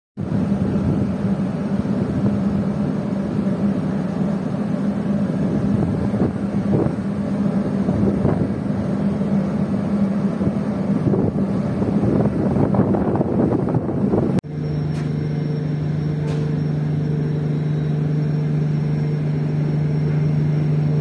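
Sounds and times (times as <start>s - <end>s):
continuous rushing noise: 0.2s - 21.0s
ship engines droning: 0.2s - 21.0s.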